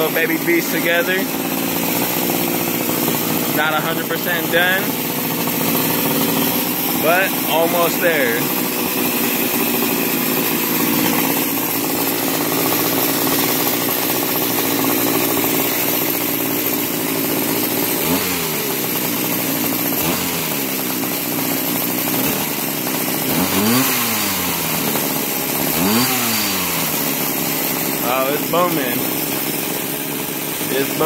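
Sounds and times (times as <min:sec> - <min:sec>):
two-stroke engine revving: 0:00.0 - 0:31.0.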